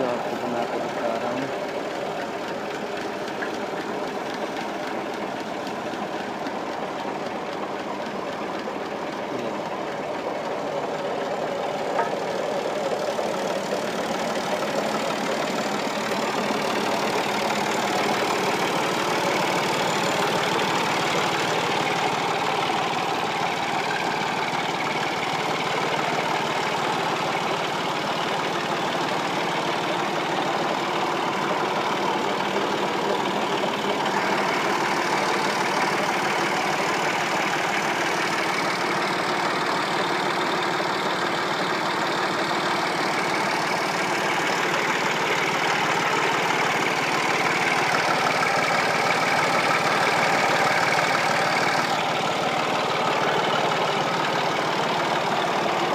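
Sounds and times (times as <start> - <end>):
diesel tractor engine running: 0.0 - 55.9.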